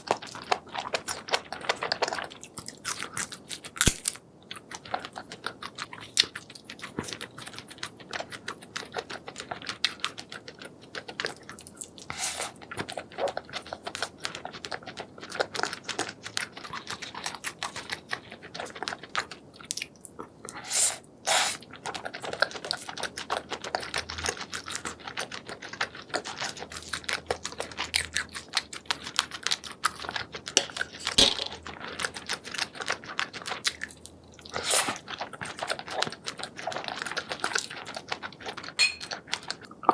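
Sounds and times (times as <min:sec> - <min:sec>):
food crunches: 0:00.0 - 0:20.7, 0:21.4 - 0:39.9
wet chewing clicks: 0:00.0 - 0:39.9.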